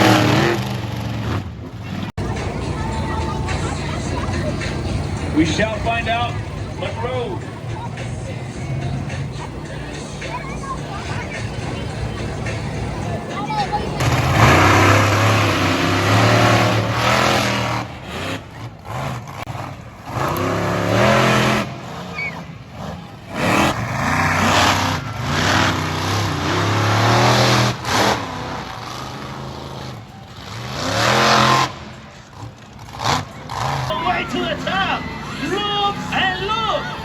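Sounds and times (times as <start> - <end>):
truck engine revving hard: 0.0 - 37.0.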